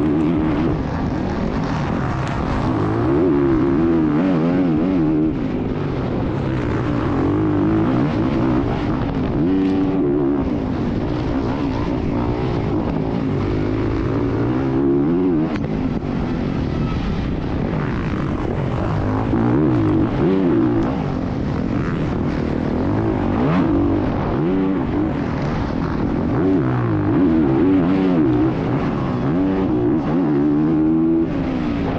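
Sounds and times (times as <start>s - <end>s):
dirt bike engine revving: 0.0s - 31.9s
steady rushing noise: 0.0s - 31.9s.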